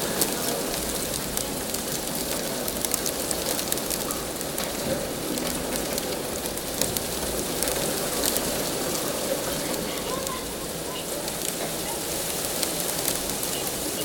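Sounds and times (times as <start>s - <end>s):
raindrops pattering: 0.0s - 14.0s
torrential rain pouring: 0.0s - 14.0s.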